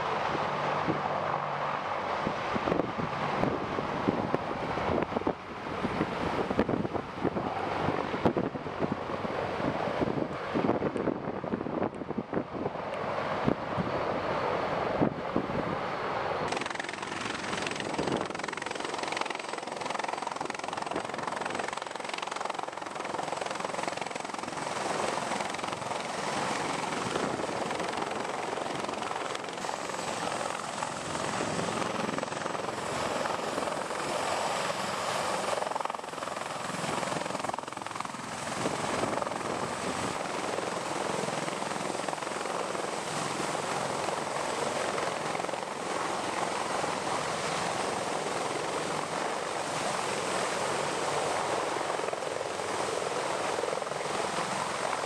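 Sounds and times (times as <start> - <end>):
helicopter hovering: 0.0 - 55.0.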